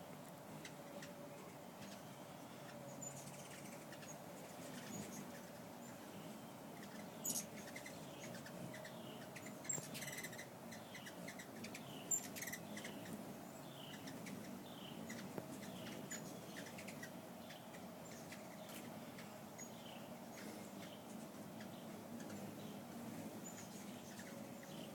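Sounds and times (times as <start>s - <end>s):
hummingbird chips: 0.1s - 24.9s.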